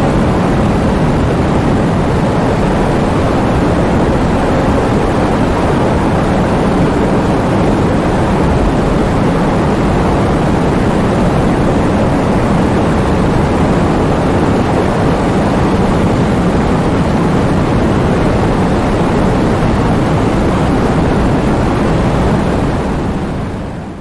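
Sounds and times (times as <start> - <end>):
heavy rain in strong wind: 0.0 - 24.0.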